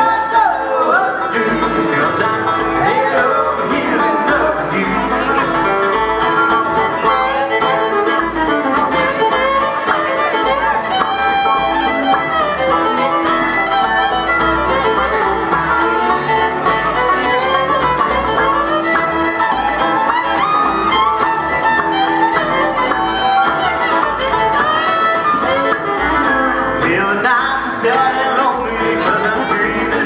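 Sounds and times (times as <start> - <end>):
bluegrass band playing: 0.0 - 30.0
fiddle melody: 0.0 - 30.0.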